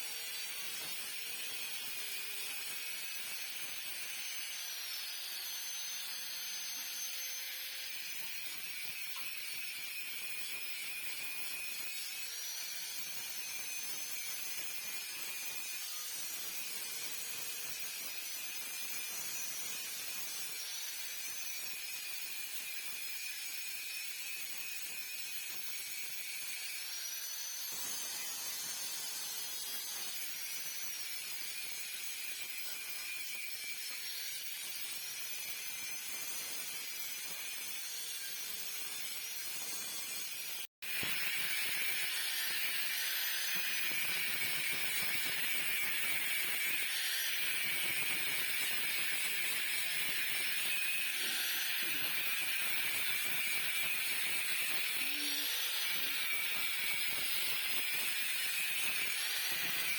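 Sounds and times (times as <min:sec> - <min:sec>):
hissing workshop noise: 0:00.0 - 0:59.9.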